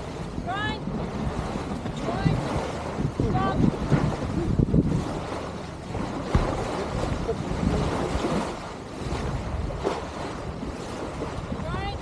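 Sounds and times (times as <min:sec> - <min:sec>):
water rushing past boat hull: 0:00.0 - 0:12.0
wind buffeting microphone: 0:00.0 - 0:12.0.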